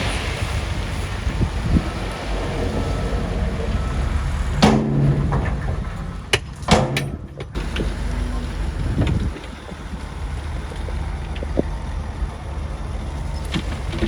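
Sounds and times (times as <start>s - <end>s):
heavy machinery engine rumbling: 0.0s - 14.0s.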